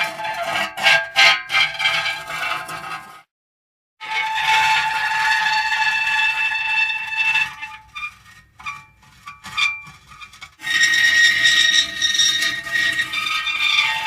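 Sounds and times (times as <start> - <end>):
metal creaking and squealing: 0.0 - 3.2, 4.0 - 14.0.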